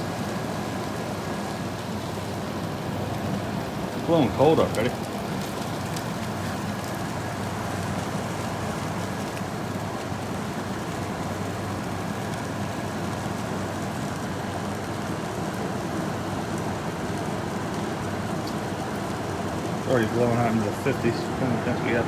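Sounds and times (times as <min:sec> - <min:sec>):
air conditioner fan rushing: 0:00.0 - 0:22.0
compressor humming: 0:00.0 - 0:22.0.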